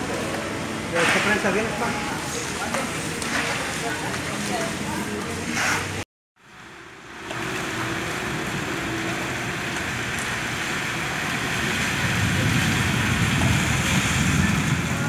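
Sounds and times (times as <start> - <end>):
heavy rain on pavement: 0.0 - 15.0.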